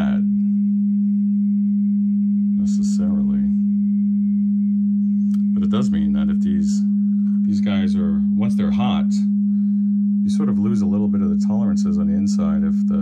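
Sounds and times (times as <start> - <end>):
steady sine test tone: 0.0 - 13.0.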